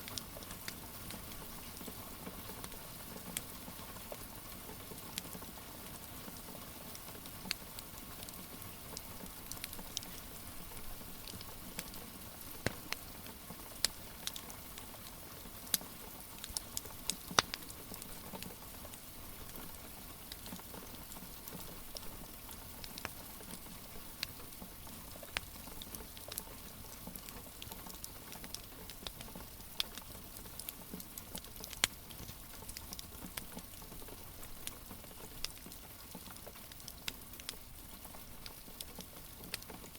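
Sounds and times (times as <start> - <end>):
wood fire crackling: 7.0 - 39.9.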